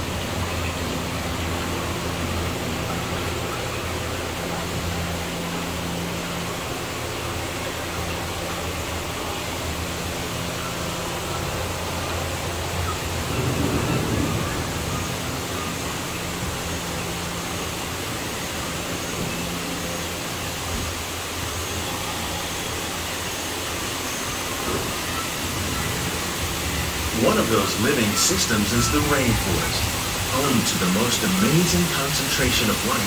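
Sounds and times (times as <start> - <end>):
boat ride water rushing: 0.0 - 33.0.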